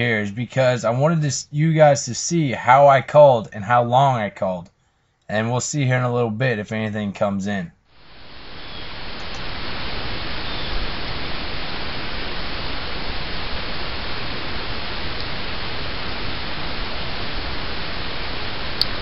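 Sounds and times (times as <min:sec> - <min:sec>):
steady static hiss: 0:00.0 - 0:19.0.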